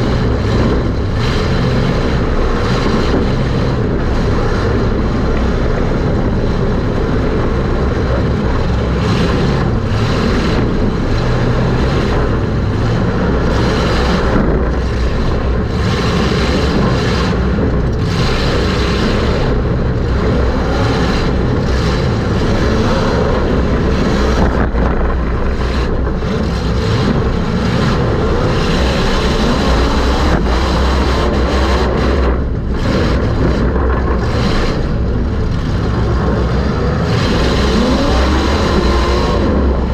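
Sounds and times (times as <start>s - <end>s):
race car engine running hard: 0.0s - 39.9s
wind noise inside car: 0.0s - 39.9s.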